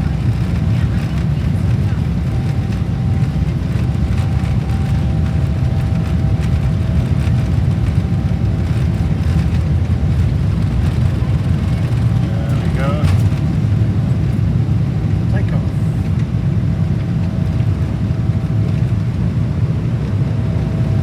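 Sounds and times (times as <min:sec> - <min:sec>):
airliner cabin noise: 0:00.0 - 0:21.0.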